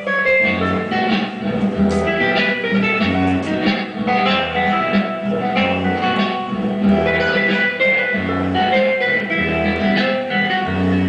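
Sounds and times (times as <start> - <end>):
music from an old radio speaker: 0.0 - 11.0.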